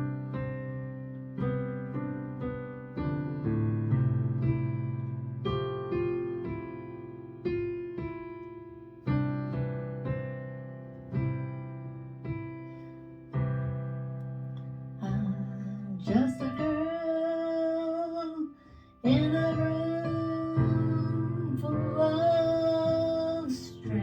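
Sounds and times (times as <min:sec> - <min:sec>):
slow keyboard chords: 0:00.0 - 0:24.0.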